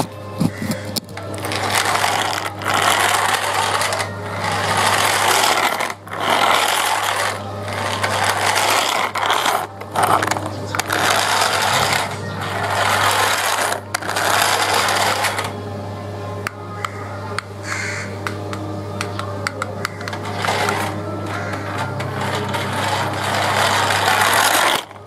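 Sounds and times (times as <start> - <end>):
toy car motor and gears whirring: 0.0 - 15.6, 19.4 - 25.0.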